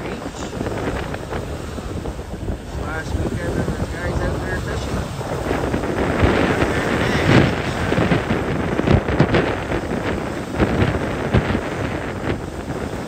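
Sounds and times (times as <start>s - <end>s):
waves breaking against rocks: 0.0s - 13.0s
wind buffeting microphone: 0.0s - 13.0s.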